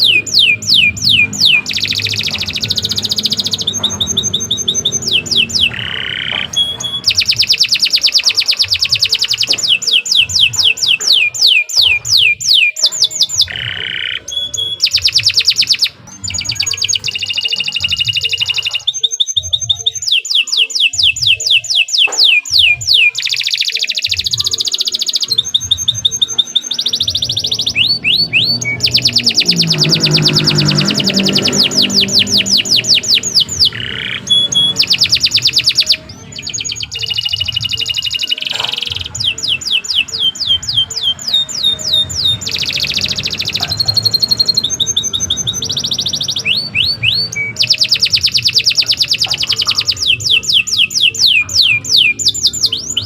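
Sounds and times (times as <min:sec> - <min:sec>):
canary singing: 0:00.0 - 0:53.0.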